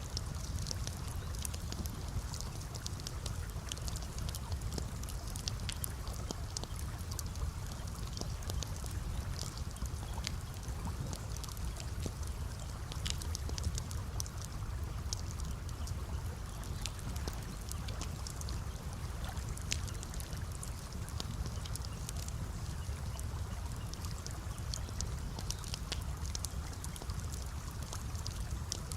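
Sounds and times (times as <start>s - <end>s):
campfire crackling and popping: 0.0s - 28.9s
water trickling: 0.0s - 28.9s.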